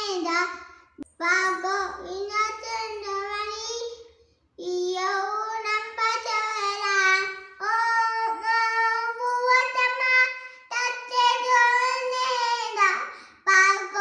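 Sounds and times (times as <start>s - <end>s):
girl chanting sing-song: 0.0s - 4.0s, 4.6s - 14.0s.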